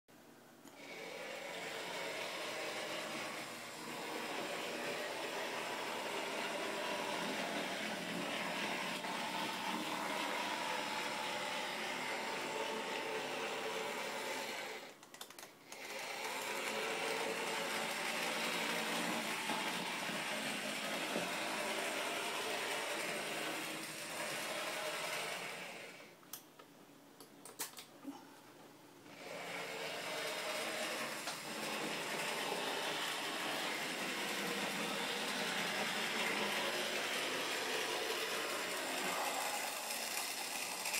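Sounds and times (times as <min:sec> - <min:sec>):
model train motor whine: 0:00.8 - 0:15.0, 0:15.7 - 0:26.1, 0:29.1 - 0:40.9.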